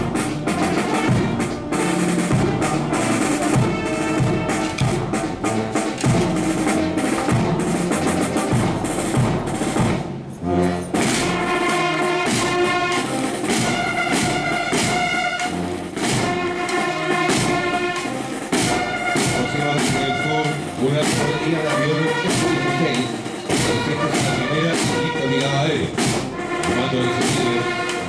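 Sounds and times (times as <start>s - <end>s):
brass sustained chords: 0.0s - 7.9s, 10.3s - 28.0s
snare drums beating: 0.0s - 28.0s.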